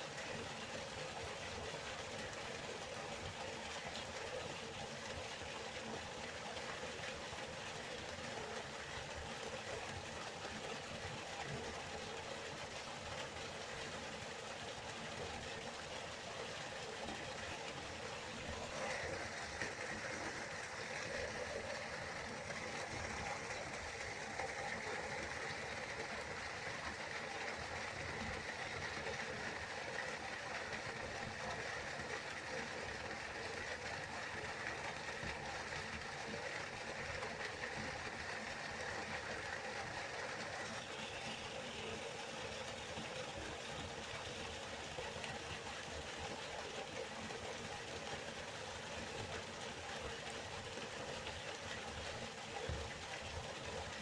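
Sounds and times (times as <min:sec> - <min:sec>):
river flowing: 0:00.0 - 0:34.5, 0:35.1 - 0:54.0.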